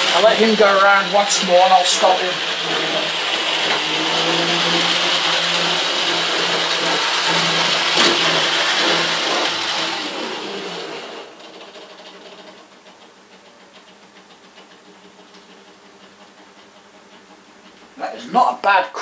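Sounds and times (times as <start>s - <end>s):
model train motor whirring: 0.0s - 17.8s.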